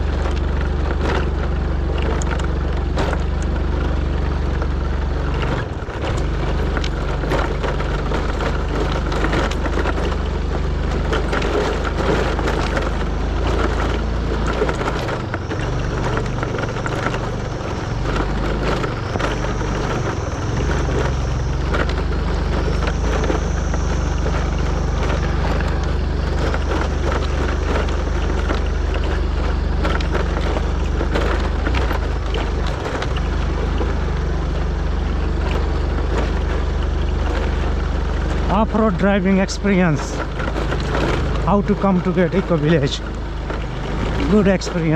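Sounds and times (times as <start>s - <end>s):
rattling and knocking: 0.0s - 44.9s
vehicle engine running: 0.0s - 44.9s.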